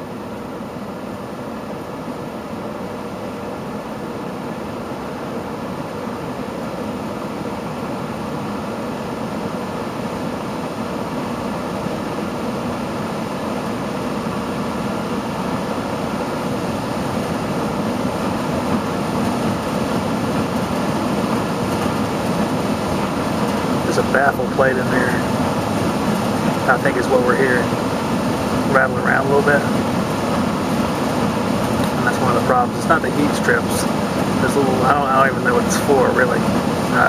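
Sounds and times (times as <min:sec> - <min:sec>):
blower rushing air and motor noise: 0:00.0 - 0:37.0.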